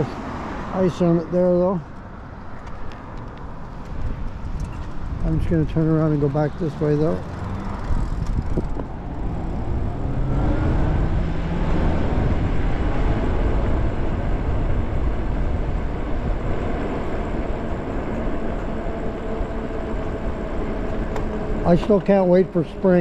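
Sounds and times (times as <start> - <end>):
road rumble: 0.0 - 23.0
wind rushing over microphone: 2.2 - 23.0.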